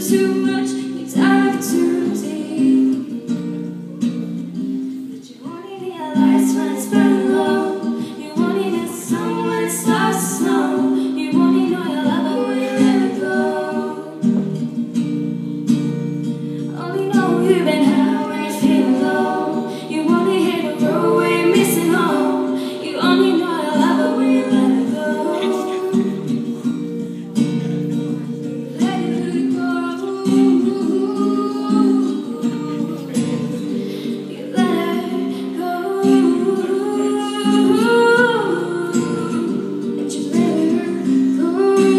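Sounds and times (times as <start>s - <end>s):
acoustic guitar chords: 0.0s - 41.9s
person singing: 5.3s - 14.7s, 16.7s - 41.9s.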